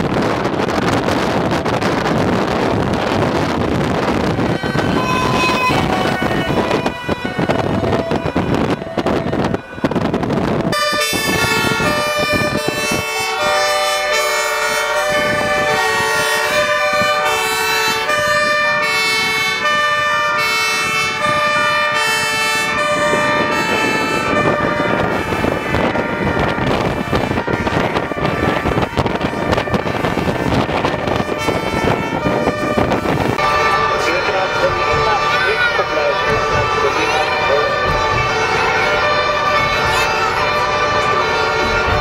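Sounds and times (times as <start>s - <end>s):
traffic noise: 0.0s - 42.0s
two-tone fire engine sirens: 0.0s - 42.0s
wind: 0.0s - 42.0s.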